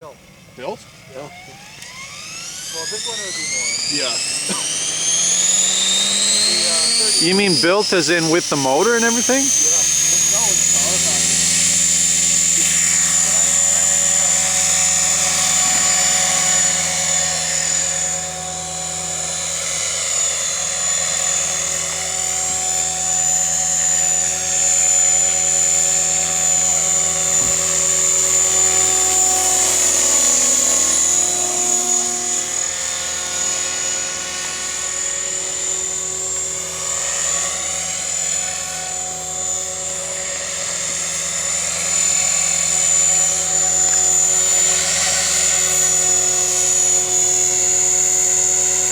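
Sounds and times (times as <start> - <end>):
radio-controlled helicopter whine: 0.0 - 48.9.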